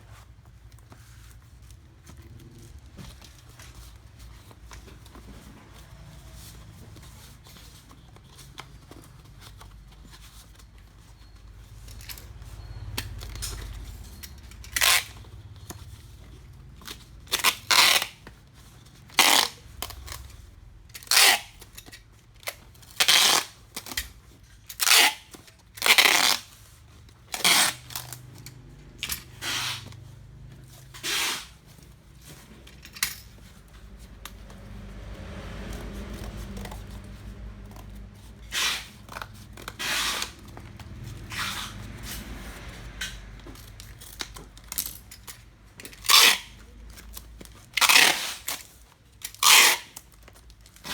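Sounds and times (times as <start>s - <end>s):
packaging material rasping: 0.5s - 50.9s.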